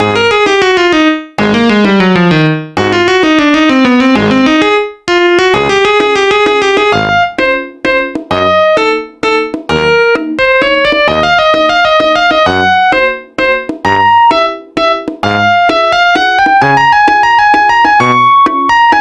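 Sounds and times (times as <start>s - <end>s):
fast keyboard melody: 0.0s - 19.0s.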